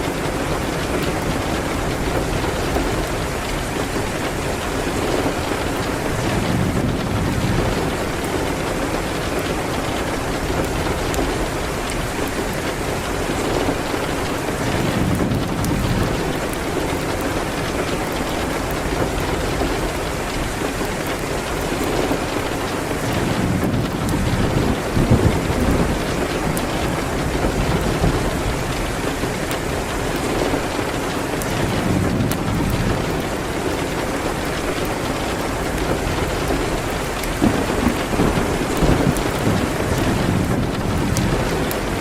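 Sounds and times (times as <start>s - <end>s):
rain beating on window: 0.0s - 42.0s
thunder rumbling: 0.0s - 42.0s
wood fire crackling: 0.0s - 42.0s.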